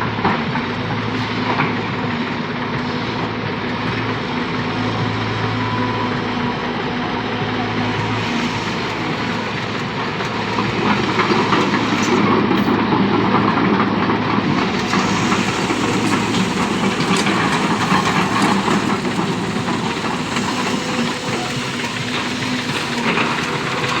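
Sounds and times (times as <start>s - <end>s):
heavy diesel machinery rattling: 0.0s - 24.0s.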